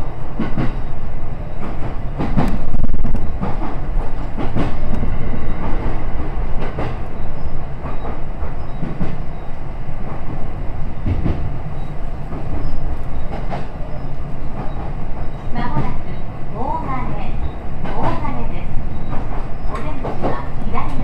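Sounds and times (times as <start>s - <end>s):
train wheels rumbling on track: 0.0s - 21.0s
wheels clacking over rail joints: 1.5s - 21.0s.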